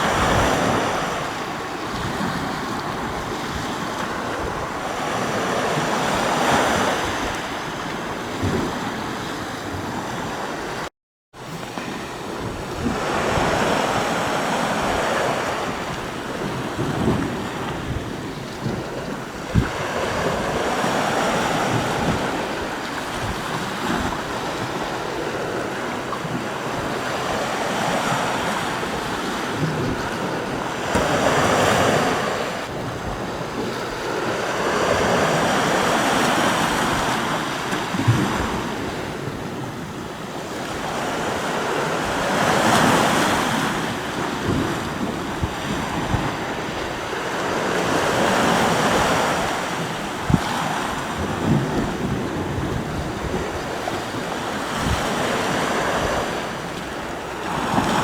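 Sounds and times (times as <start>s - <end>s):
sea waves washing onto shore: 0.0s - 58.0s
wind buffeting microphone: 0.0s - 58.0s.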